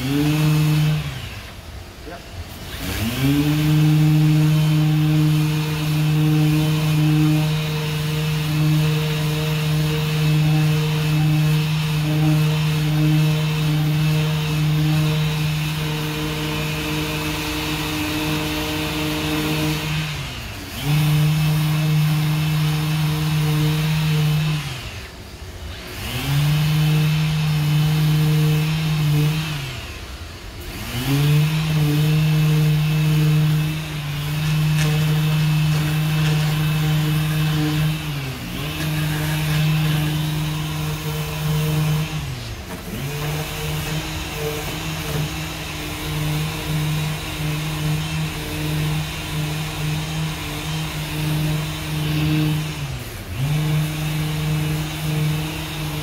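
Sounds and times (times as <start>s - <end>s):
orbital sander running: 0.0s - 56.0s.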